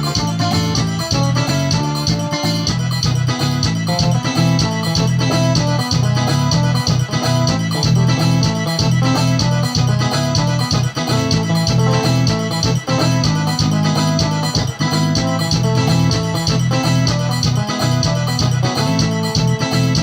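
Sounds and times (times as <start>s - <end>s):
instrumental music with heavy bass: 0.0s - 20.0s.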